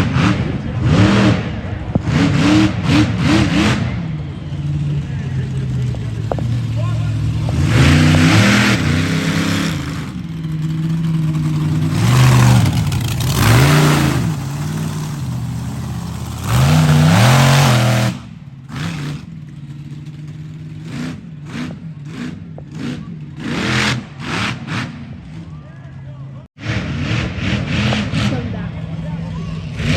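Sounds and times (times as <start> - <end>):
truck engine revving hard: 0.0 - 25.5, 26.5 - 29.9.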